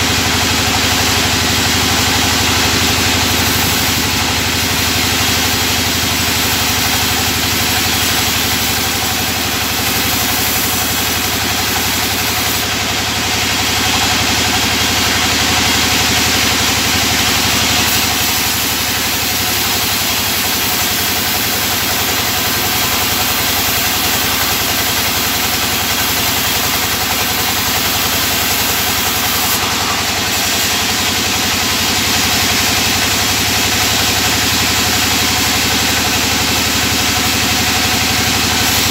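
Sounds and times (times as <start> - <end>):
saw blade cutting wood: 0.0 - 38.9.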